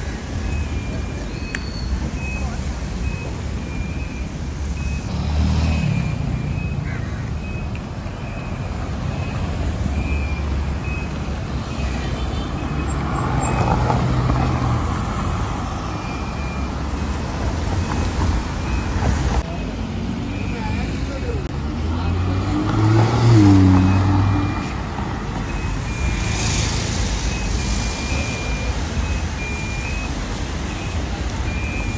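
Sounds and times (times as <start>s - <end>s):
car and truck engines rumbling: 0.0s - 31.9s.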